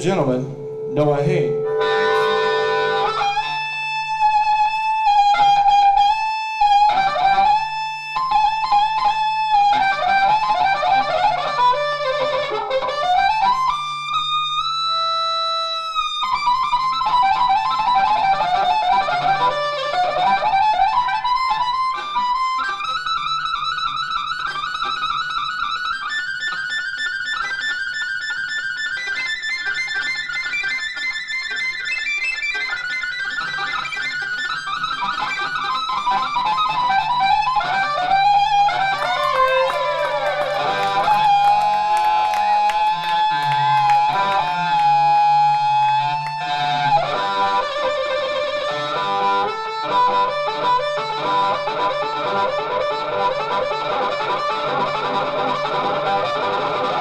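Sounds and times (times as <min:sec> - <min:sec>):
live rock band playing: 0:01.5 - 0:28.8, 0:32.1 - 0:57.0.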